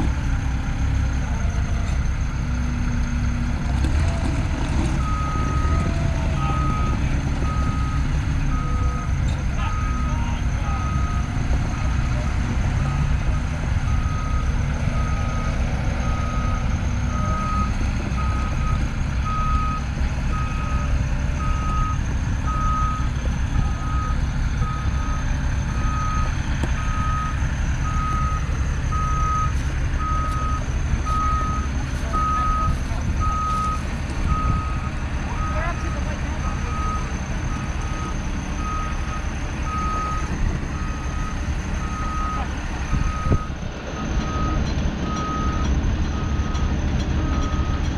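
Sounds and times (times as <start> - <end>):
forklift engine running: 0.0 - 47.9.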